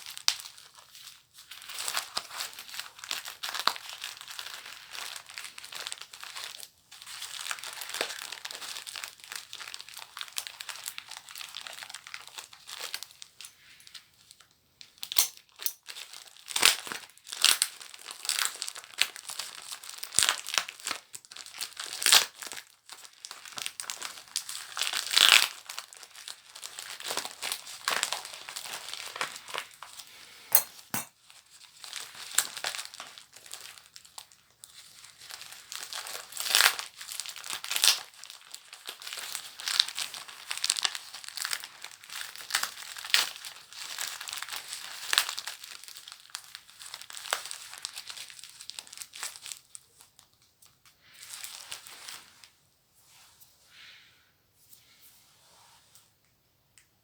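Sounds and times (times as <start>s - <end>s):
paper packaging crinkling and tearing: 0.0s - 30.1s, 31.3s - 50.4s.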